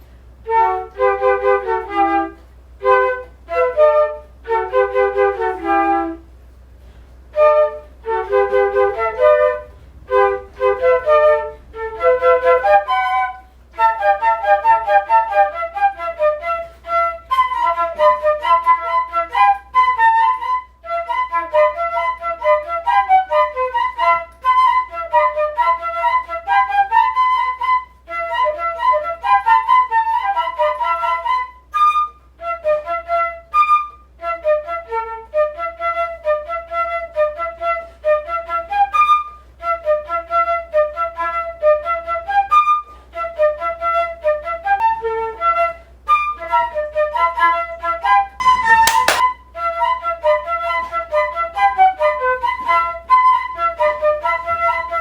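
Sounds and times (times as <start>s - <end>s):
flute-like woodwind melody: 0.4s - 6.3s, 7.3s - 47.8s, 50.9s - 55.0s.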